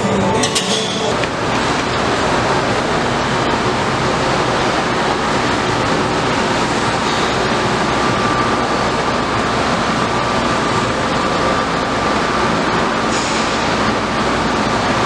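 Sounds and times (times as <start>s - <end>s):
thin steady whine: 0.0s - 13.1s
ventilation air rushing: 0.0s - 15.0s.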